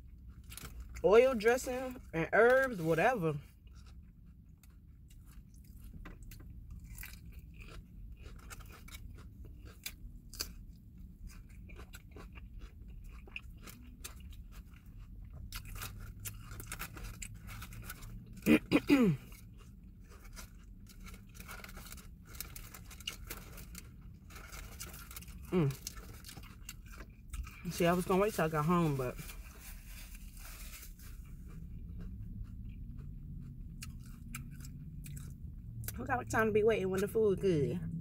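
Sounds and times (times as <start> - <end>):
chewing and crunching greens: 0.0 - 38.0.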